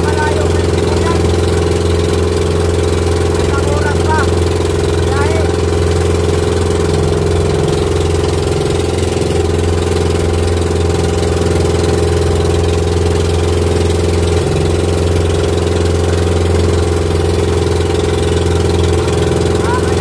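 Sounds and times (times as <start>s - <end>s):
boat engine running steadily: 0.0s - 20.0s.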